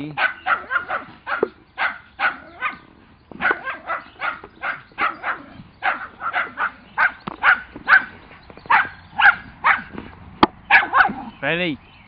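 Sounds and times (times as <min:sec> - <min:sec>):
puppy yapping barks: 0:00.2 - 0:02.8, 0:03.4 - 0:10.0, 0:10.7 - 0:11.3.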